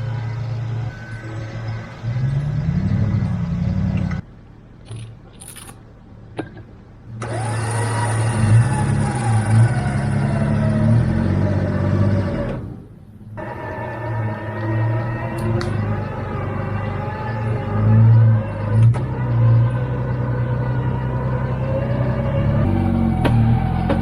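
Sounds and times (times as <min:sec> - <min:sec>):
engine running and revving: 0:00.0 - 0:04.2, 0:07.2 - 0:24.0.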